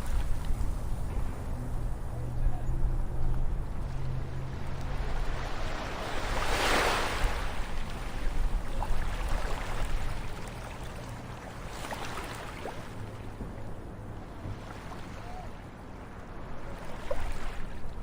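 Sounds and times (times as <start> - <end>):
low rumble of surf: 0.0 - 18.0
ocean waves breaking on shore: 0.0 - 18.0.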